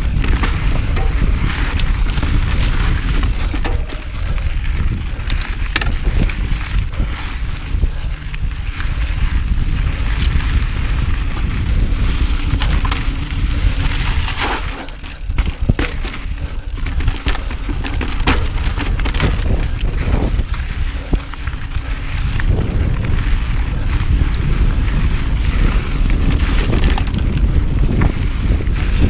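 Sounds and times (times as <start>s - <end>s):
bike clicks and rattles: 0.0s - 29.0s
tyre noise on dirt: 0.0s - 29.0s
wind rumble on microphone: 0.0s - 29.0s.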